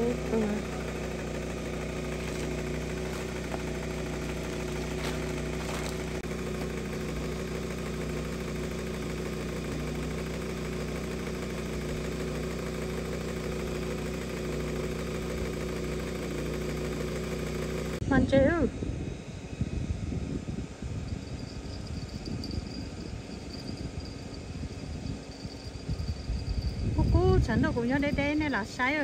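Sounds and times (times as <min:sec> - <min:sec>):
steady engine hum: 0:00.0 - 0:29.0.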